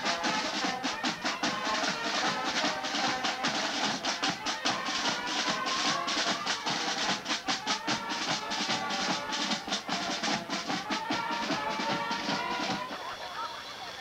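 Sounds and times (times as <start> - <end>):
snare and bass drums beating: 0.0 - 13.0
marching band playing: 0.0 - 13.4.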